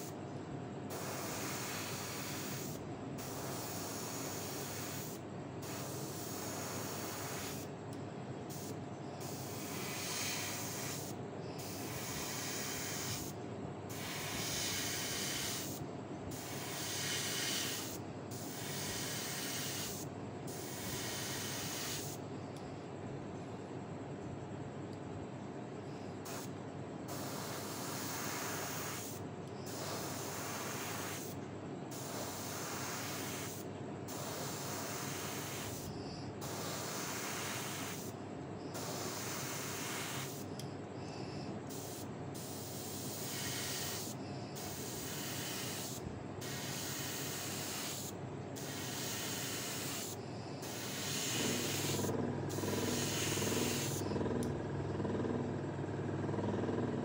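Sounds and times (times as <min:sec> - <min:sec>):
airbrush spraying hiss: 0:00.9 - 0:07.8, 0:08.4 - 0:22.2, 0:26.2 - 0:40.6, 0:41.2 - 0:54.1.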